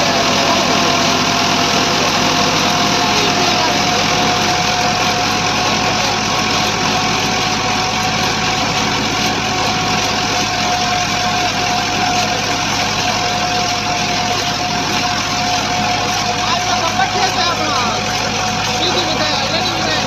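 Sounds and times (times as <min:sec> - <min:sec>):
constant high whine: 0:00.0 - 0:20.0
tractor diesel engine under load: 0:00.0 - 0:20.0.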